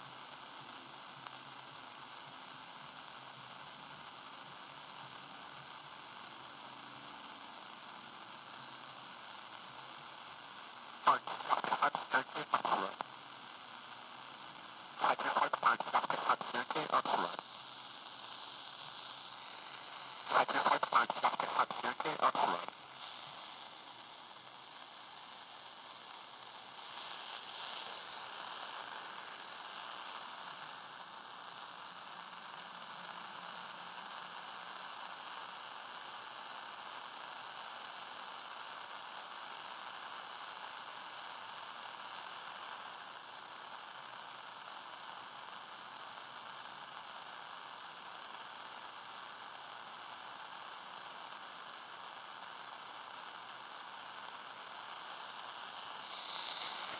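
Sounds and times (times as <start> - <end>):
radio static hiss: 0.0 - 56.9.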